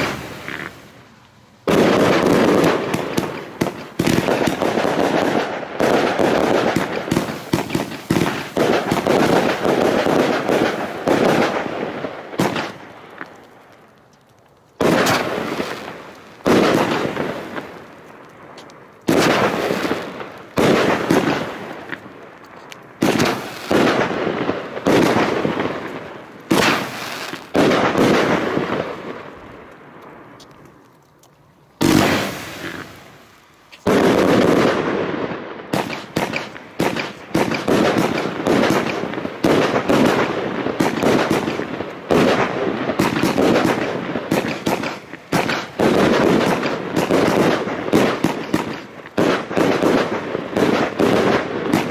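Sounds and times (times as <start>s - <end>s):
fireworks shots and crackling: 0.0s - 31.0s, 31.7s - 51.9s.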